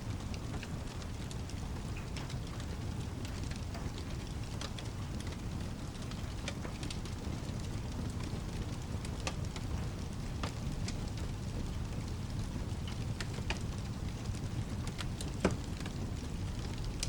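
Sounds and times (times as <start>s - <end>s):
fireplace crackling and popping: 0.0s - 17.0s
rain hiss: 0.0s - 17.0s.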